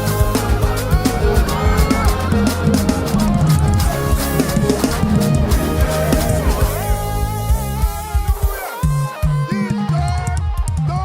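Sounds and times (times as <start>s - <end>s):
live band music: 0.0s - 10.4s.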